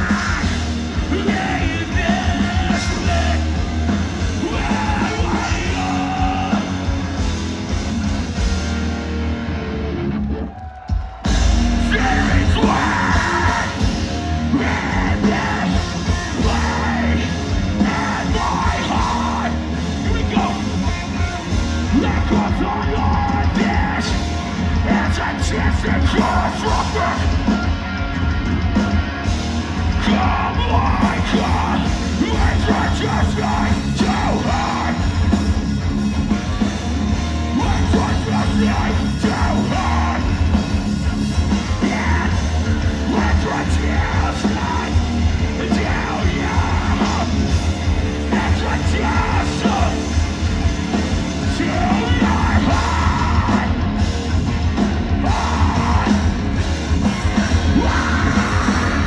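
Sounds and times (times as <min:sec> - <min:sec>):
screamed vocals: 0:00.0 - 0:03.6, 0:04.2 - 0:06.9, 0:10.1 - 0:27.7, 0:29.8 - 0:35.4, 0:37.4 - 0:50.4, 0:51.3 - 0:54.1, 0:55.1 - 0:59.0
distorted guitars: 0:00.0 - 0:59.0
drums: 0:00.0 - 0:59.0
heavy bass: 0:00.0 - 0:59.0.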